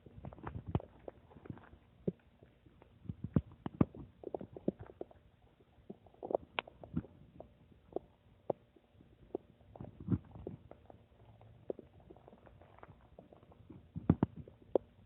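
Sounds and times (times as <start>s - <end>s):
stomach rumbling and gurgling: 0.0s - 15.0s.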